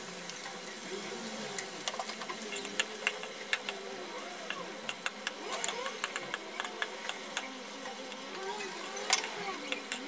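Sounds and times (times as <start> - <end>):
butter sizzling with pops: 0.0 - 10.0.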